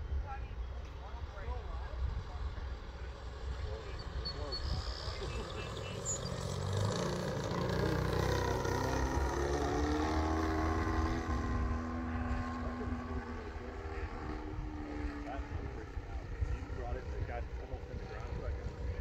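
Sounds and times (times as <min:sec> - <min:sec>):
model airplane motor droning: 0:00.8 - 0:19.0.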